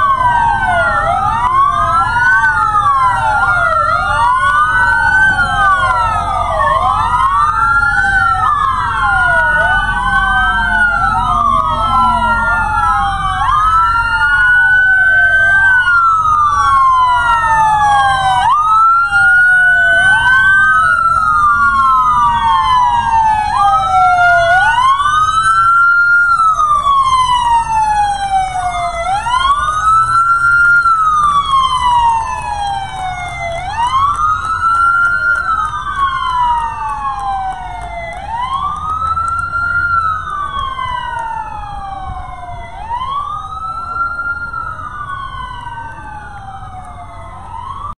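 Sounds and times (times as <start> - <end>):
emergency sirens wailing: 0.0 - 47.9
vehicle engines rumbling: 0.0 - 47.9.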